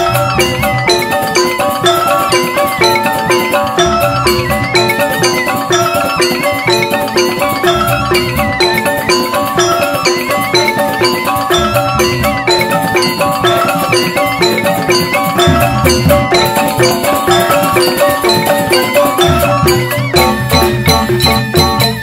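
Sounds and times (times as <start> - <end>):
bamboo xylophones struck with mallets: 0.0 - 22.0
hand drums: 0.0 - 22.0.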